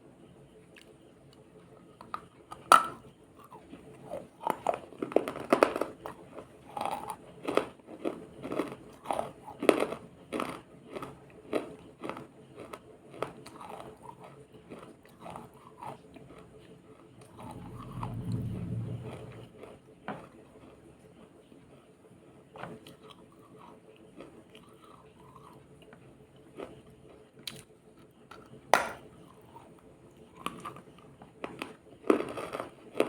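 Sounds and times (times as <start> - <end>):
person chewing crunchy food: 0.7 - 19.7, 22.7 - 27.7, 28.4 - 33.0.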